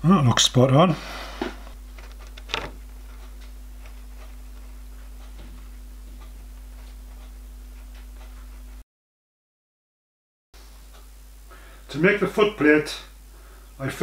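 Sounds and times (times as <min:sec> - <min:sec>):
low electrical hum: 0:00.0 - 0:08.8, 0:10.6 - 0:14.0.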